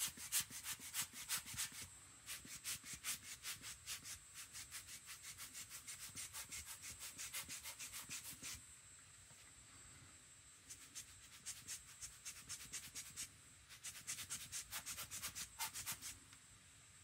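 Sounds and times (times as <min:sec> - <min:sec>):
scrubbing on paper: 0:00.0 - 0:08.6, 0:10.7 - 0:16.2.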